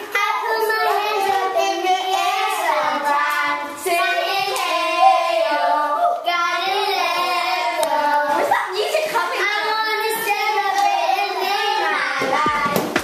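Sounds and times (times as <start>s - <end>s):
child singing: 0.0s - 13.0s.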